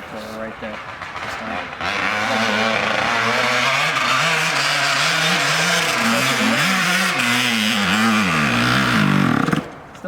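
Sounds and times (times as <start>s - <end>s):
dirt bike engine revving: 0.8s - 9.8s.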